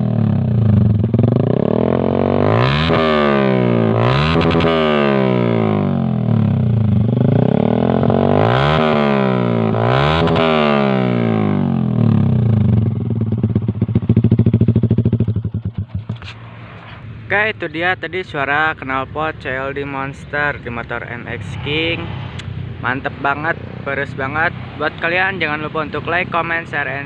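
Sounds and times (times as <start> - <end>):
motorcycle engine revving: 0.0 - 17.0, 20.9 - 27.0.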